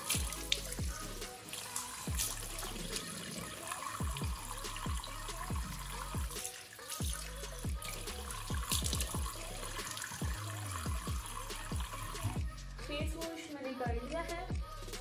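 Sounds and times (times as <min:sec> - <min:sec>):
music with deep bass beat: 0:00.0 - 0:01.5, 0:02.1 - 0:03.0, 0:04.0 - 0:06.4, 0:07.0 - 0:15.0
tap water splashing in basin: 0:00.0 - 0:12.4.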